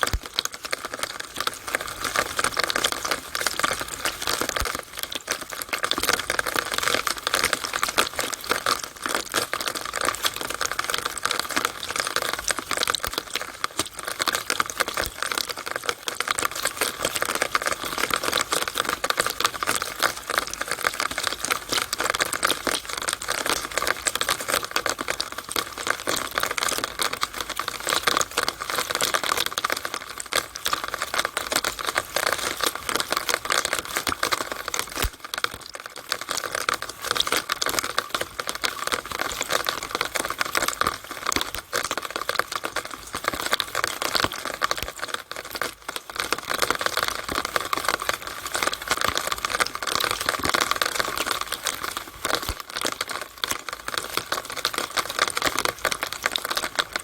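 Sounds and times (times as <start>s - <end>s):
rainwater dripping in downspout: 0.0s - 57.0s.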